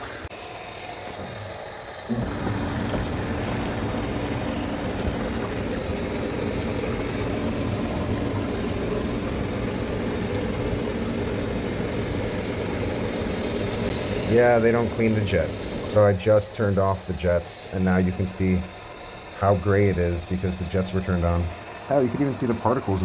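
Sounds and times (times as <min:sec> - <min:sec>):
pump motor humming: 0:00.0 - 0:23.0
water churning and bubbling: 0:00.0 - 0:23.0.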